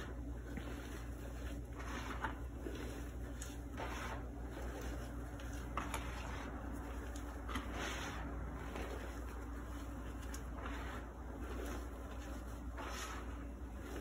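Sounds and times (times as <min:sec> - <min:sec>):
hands crunching powdered chalk: 0:00.0 - 0:14.0.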